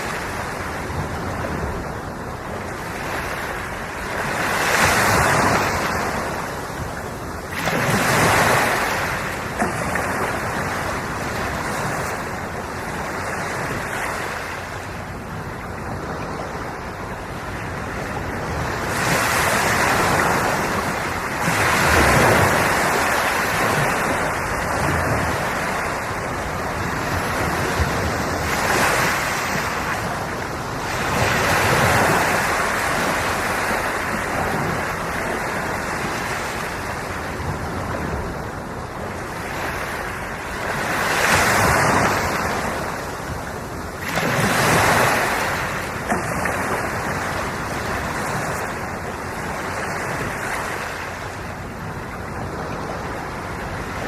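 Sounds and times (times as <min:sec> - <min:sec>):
ocean waves breaking on shore: 0:00.0 - 0:54.0
wind on microphone: 0:00.0 - 0:54.0.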